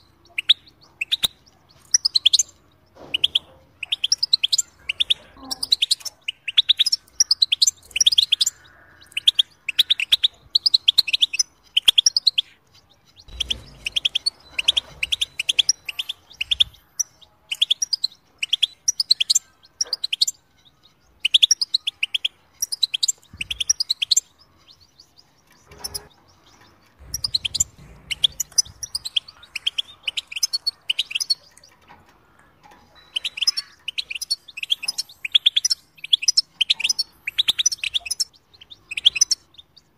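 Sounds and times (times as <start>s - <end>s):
goldfinch singing: 0.0s - 39.9s.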